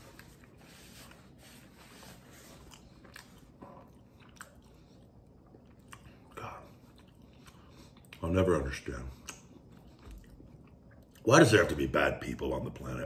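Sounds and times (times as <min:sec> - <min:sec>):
man chewing food: 0:00.0 - 0:11.3.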